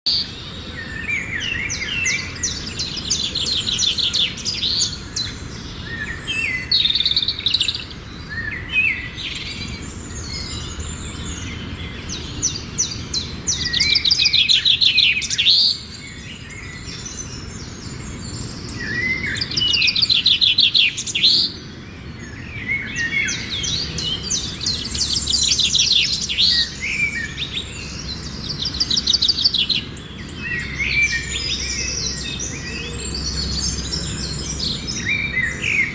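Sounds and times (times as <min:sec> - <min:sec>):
bird singing fast trills: 0:00.1 - 0:35.9.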